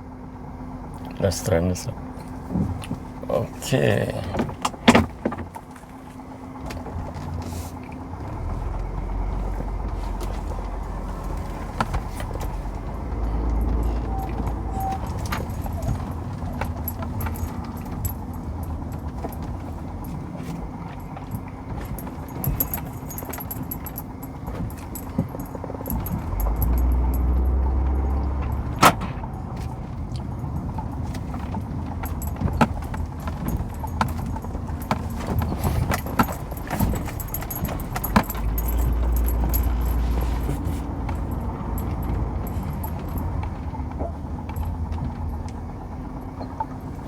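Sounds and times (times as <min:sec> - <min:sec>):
car cabin road rumble: 0:00.0 - 0:47.0
interior clicks and rattles: 0:00.0 - 0:47.0.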